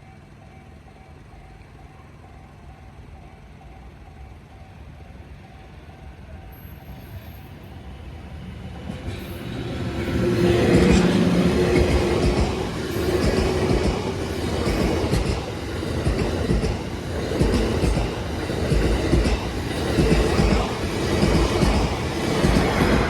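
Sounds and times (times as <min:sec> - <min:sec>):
train rumbling: 0:00.0 - 0:23.0.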